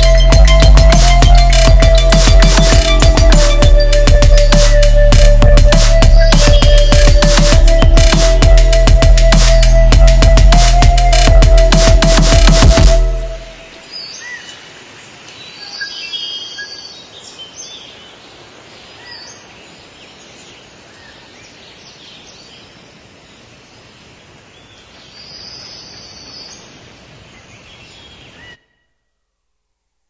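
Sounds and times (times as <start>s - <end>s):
birds chirping: 0.0s - 12.8s, 13.5s - 28.9s
outdoor background hiss: 0.0s - 30.0s.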